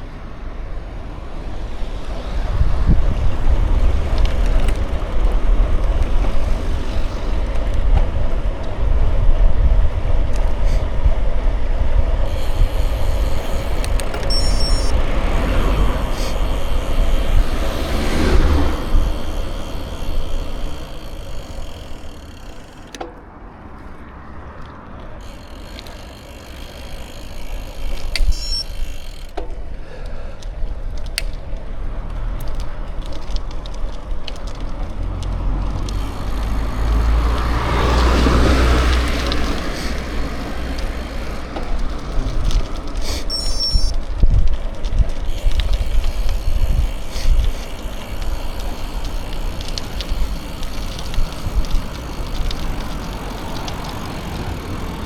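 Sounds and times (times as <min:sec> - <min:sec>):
bicycle tyre noise: 0:00.0 - 0:55.0
car passing: 0:00.0 - 0:55.0
wind rumble on microphone: 0:01.0 - 0:21.2, 0:30.6 - 0:55.0.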